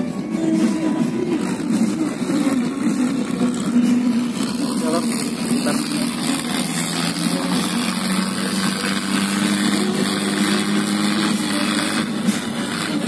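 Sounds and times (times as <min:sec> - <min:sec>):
boat engine drone: 0:00.0 - 0:13.0
constant rushing noise: 0:00.0 - 0:13.0.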